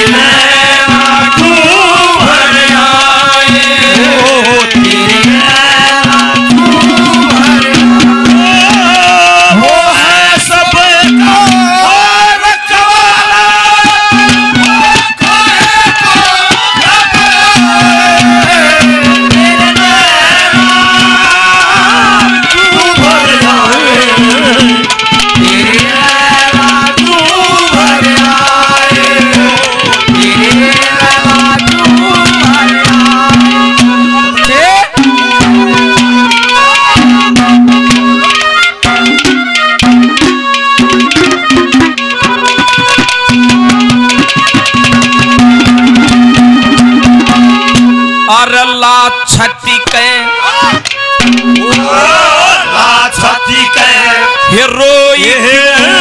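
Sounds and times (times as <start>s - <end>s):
hand drum beat: 0.0s - 11.8s, 13.8s - 48.4s, 49.9s - 54.7s, 55.3s - 56.0s
wavering folk melody: 0.0s - 56.0s.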